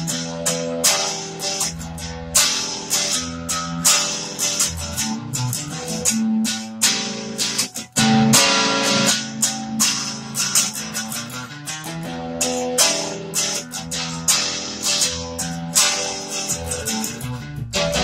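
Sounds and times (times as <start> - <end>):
overdriven electric guitar playing: 0.0 - 18.0.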